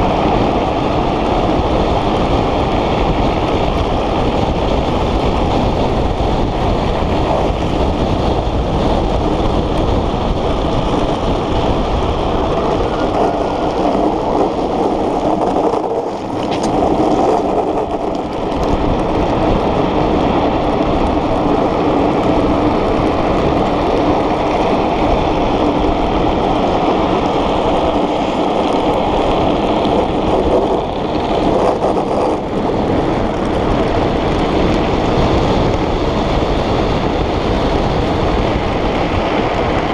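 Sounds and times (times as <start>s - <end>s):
hard wheels rolling on asphalt: 0.0s - 39.9s
wind rushing over microphone: 0.0s - 39.9s.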